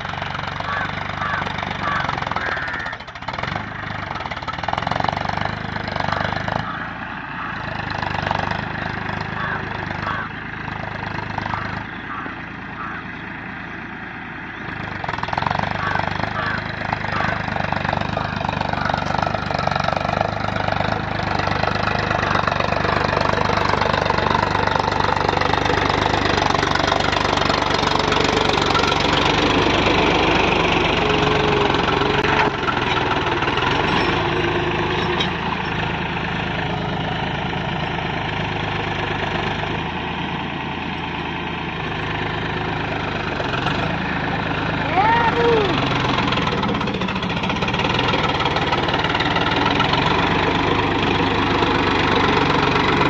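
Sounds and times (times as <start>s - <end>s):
tractor engine under load: 0.0s - 53.0s.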